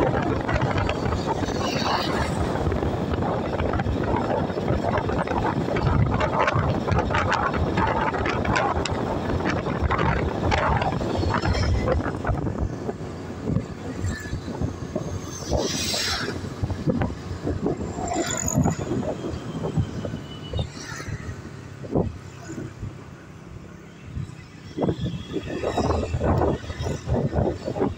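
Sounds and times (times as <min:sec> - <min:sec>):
road noise: 0:00.0 - 0:27.9
wind buffeting microphone: 0:00.0 - 0:27.9.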